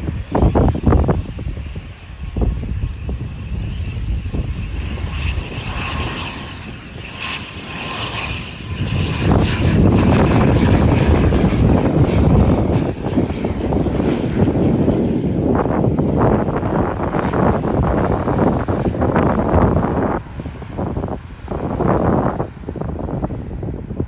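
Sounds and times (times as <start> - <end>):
propeller rumble: 0.0 - 24.0
turboprop engines whining: 0.0 - 24.0.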